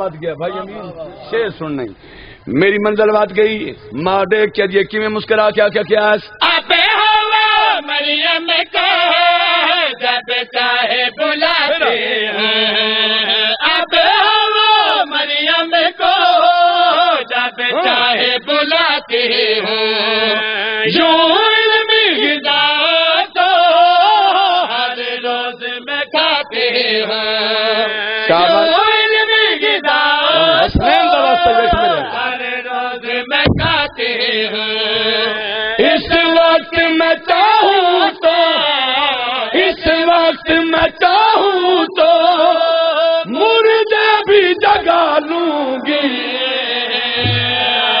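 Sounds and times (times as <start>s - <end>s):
men chanting in held notes: 6.4s - 48.0s.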